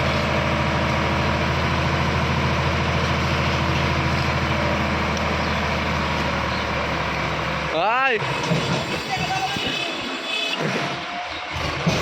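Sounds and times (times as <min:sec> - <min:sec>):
heavy diesel engine running: 0:00.0 - 0:09.8.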